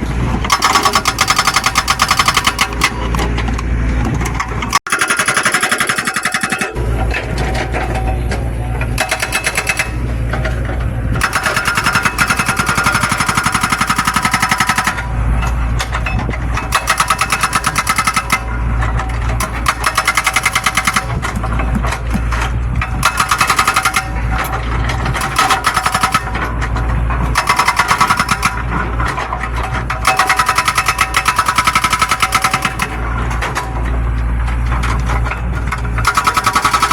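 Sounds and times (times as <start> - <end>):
diesel engine running: 0.0 - 36.9
hydraulic breaker hammering: 0.0 - 36.9.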